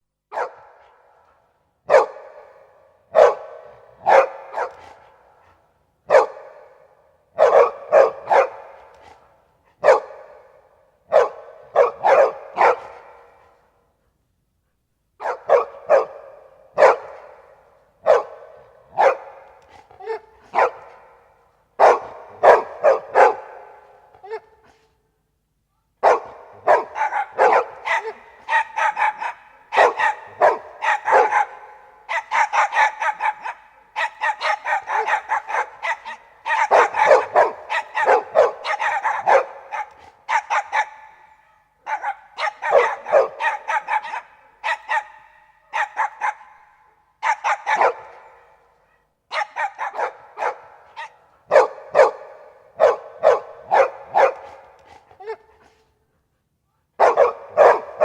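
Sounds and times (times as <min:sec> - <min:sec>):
dogs barking: 0:00.3 - 0:13.7, 0:15.2 - 0:24.8, 0:26.0 - 0:55.8, 0:57.0 - 0:58.0.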